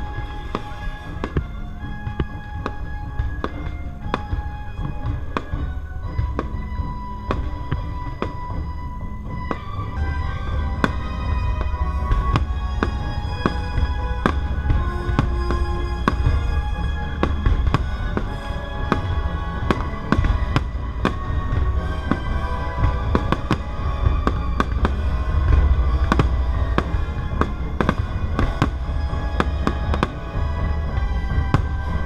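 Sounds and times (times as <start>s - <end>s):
fireworks bangs: 0.0s - 32.0s
orchestral music: 0.0s - 32.0s.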